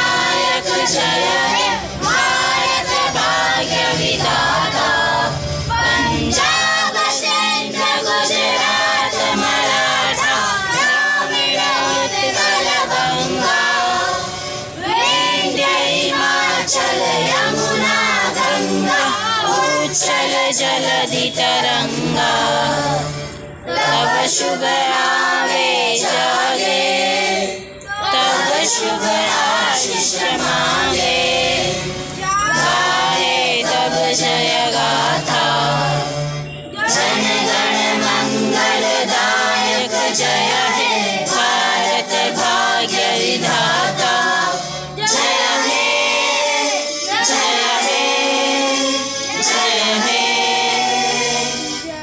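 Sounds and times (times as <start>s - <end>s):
children singing in unison: 0.0s - 52.0s.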